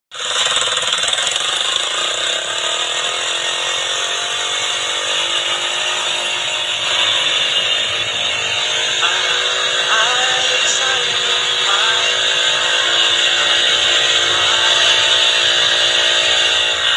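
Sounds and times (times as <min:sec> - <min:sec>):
motorcycle engine running: 0:00.1 - 0:16.9.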